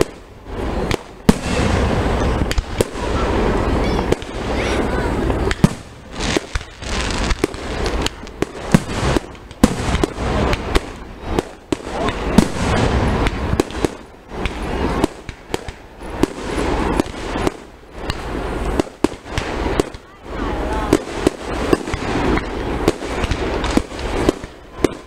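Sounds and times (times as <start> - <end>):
firework bangs: 0.0 - 25.0
fireworks crackling: 0.0 - 25.0.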